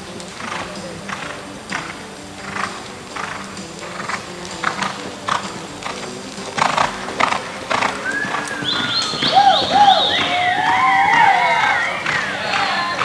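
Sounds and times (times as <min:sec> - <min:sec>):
horse hoofbeats on dirt: 0:00.0 - 0:13.0.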